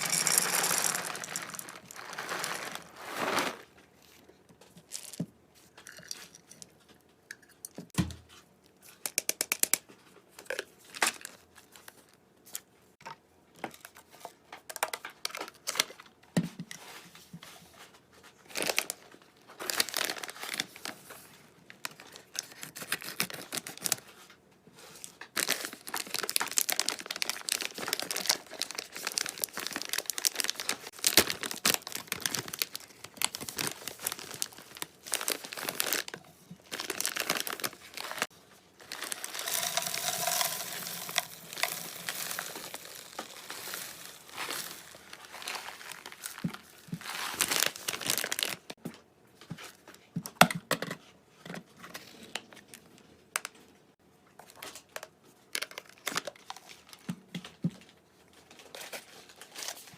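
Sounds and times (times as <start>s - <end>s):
crinkling and rustling: 0.0s - 50.3s.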